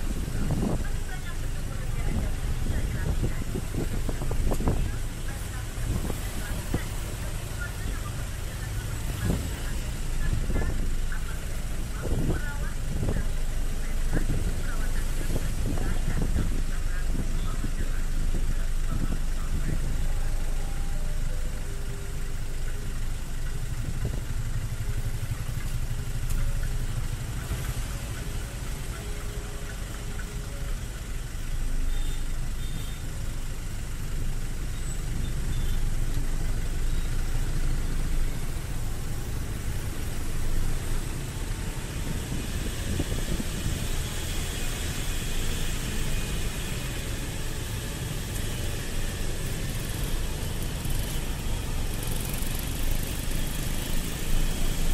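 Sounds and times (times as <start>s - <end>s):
engines idling in traffic: 0.0s - 54.9s
motorcycle moving off: 0.0s - 54.9s
road and wind noise: 0.0s - 54.9s.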